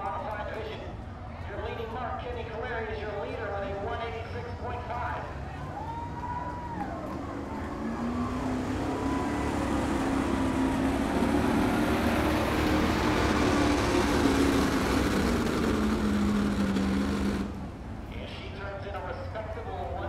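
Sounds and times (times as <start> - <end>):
truck engine under heavy load: 0.0 - 20.0.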